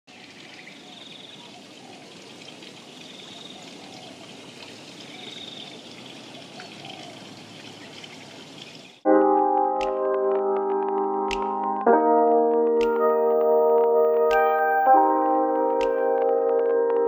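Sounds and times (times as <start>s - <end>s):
rainwater pattering and trickling: 0.1s - 17.0s.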